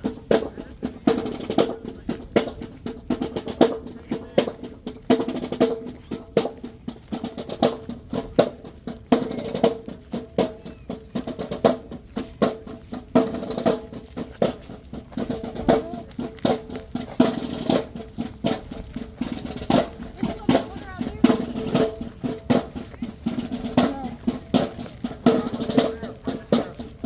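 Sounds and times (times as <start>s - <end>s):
snare drum rolls: 0.0s - 27.0s.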